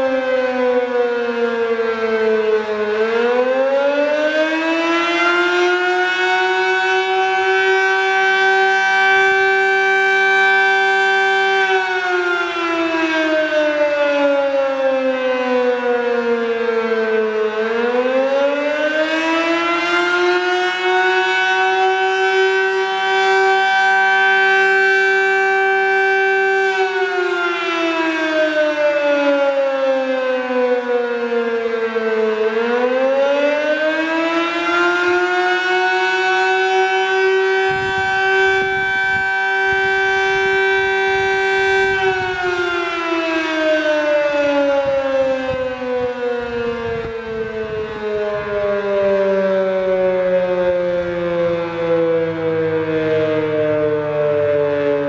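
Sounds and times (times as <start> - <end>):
fire siren wailing: 0.0 - 55.0.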